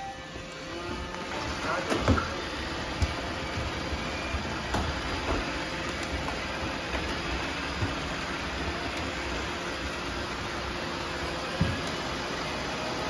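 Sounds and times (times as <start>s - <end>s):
robot vacuums whirring: 0.0s - 13.0s.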